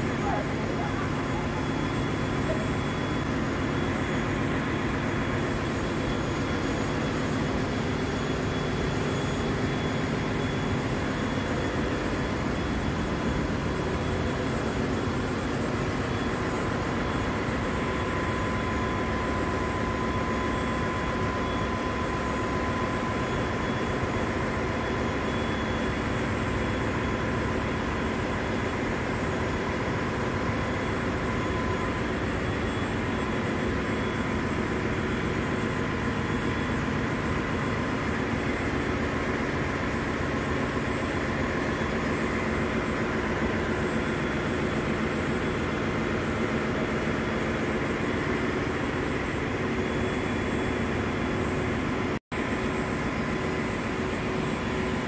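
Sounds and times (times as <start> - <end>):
engine room machinery drone: 0.0 - 55.0
machinery whine: 0.0 - 55.0.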